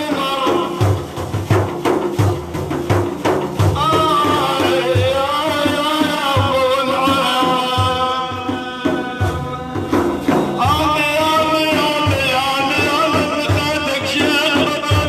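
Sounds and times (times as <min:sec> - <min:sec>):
man singing: 0:00.0 - 0:01.1, 0:03.7 - 0:15.0
hand drum beats: 0:00.0 - 0:15.0.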